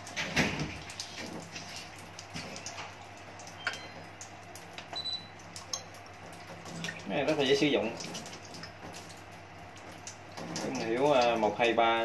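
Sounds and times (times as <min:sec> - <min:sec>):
small clicks and drips: 0:00.0 - 0:12.0.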